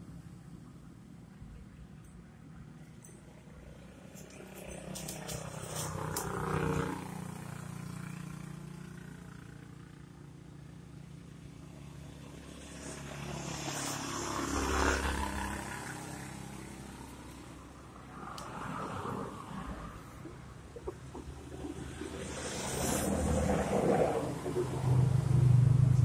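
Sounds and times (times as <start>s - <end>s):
low engine hum: 0.0s - 26.0s
vehicle passing: 3.4s - 26.0s.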